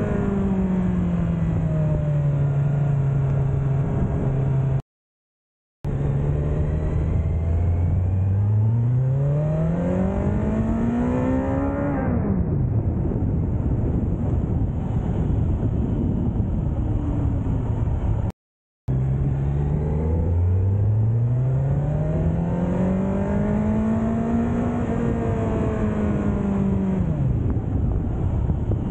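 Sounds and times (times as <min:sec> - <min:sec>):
motorcycle engine while riding: 0:00.0 - 0:04.8, 0:05.8 - 0:18.3, 0:18.9 - 0:28.9
wind rushing over microphone: 0:00.0 - 0:04.8, 0:05.9 - 0:18.3, 0:18.9 - 0:28.9.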